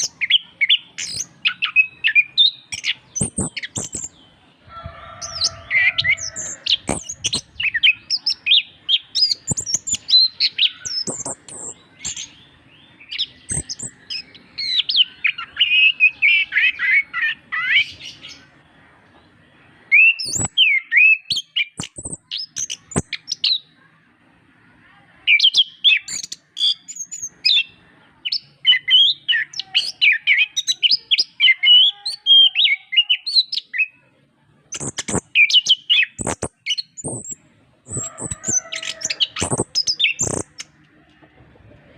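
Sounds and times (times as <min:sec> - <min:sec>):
bird singing chirps and trills: 0:00.0 - 0:23.8, 0:25.2 - 0:34.1, 0:34.7 - 0:40.9.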